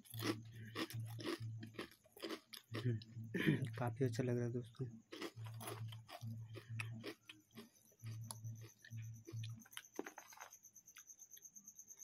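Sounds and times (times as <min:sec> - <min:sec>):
chewing crunchy snacks: 0:00.0 - 0:03.8, 0:05.0 - 0:11.1.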